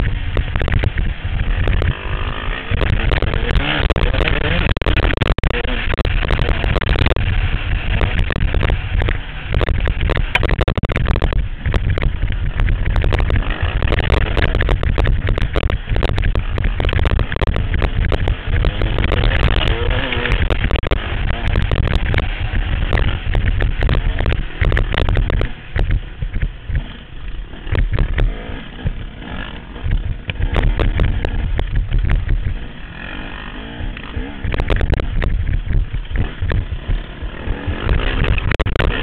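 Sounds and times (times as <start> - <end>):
motorbike engine revving: 0.0 - 39.0
wind rumble on microphone: 0.0 - 39.0.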